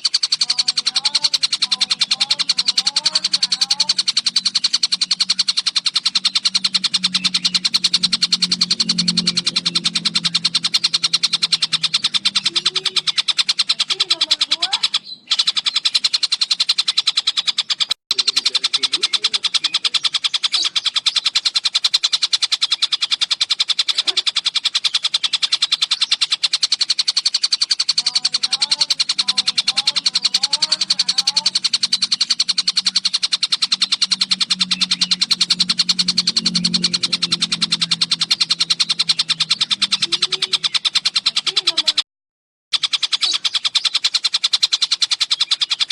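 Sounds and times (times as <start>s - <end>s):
kingfisher rattling trill: 0.0s - 42.0s, 42.7s - 45.9s.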